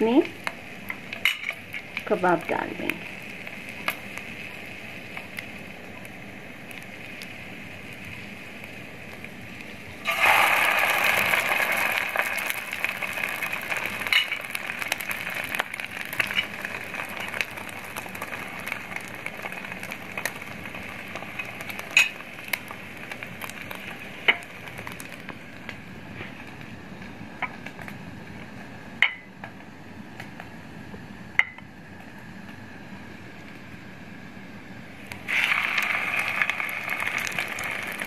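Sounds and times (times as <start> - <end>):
food frying in a pan: 0.0 - 33.8, 35.0 - 38.0.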